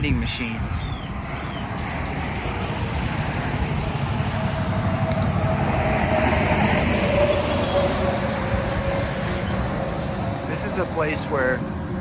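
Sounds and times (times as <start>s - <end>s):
steady whine: 0.0s - 12.0s
vehicle tyre and engine noise: 0.0s - 12.0s.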